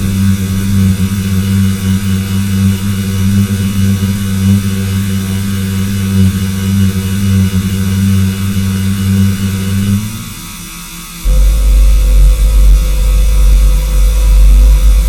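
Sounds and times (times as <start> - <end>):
electrical buzz: 0.0 - 15.0.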